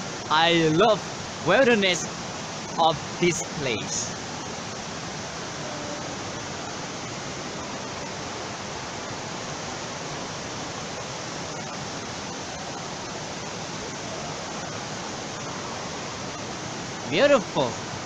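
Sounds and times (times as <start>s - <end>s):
stream pouring over rocks: 0.0s - 18.0s
waterfall rushing: 0.0s - 18.0s.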